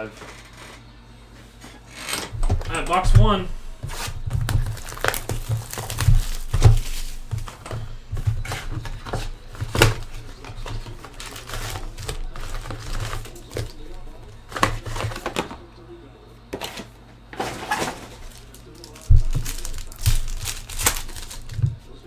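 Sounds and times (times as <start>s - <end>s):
plastic wrapping tearing and crinkling: 2.4s - 15.6s, 16.8s - 22.0s.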